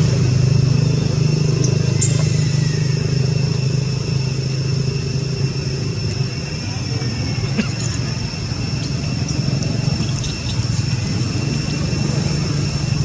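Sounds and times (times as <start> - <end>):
high-pitched whine: 0.0 - 13.0
motor low rumble: 0.0 - 13.0.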